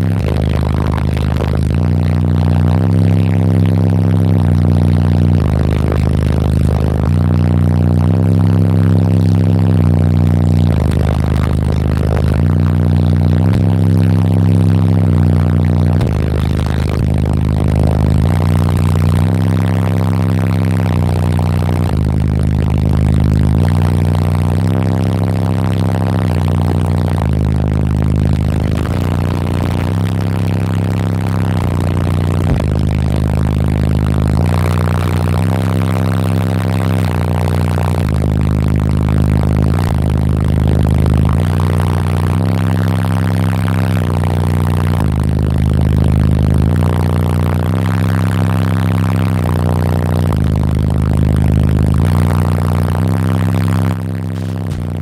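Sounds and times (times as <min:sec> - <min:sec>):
deep subwoofer bass notes: 0:00.0 - 0:55.0.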